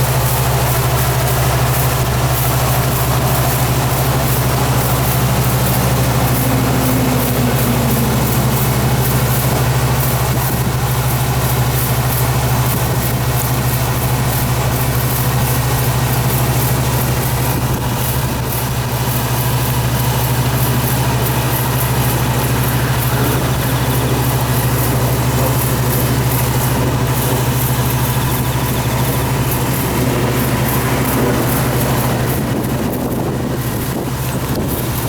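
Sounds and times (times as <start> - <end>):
farm machine engine droning: 0.0 - 35.0.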